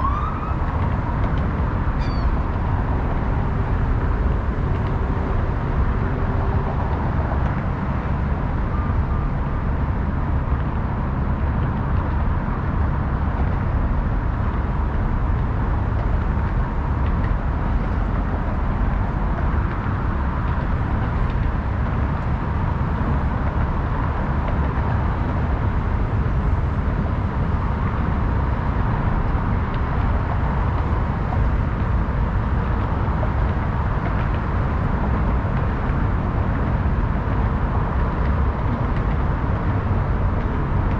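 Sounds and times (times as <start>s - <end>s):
road traffic noise: 0.0s - 40.9s.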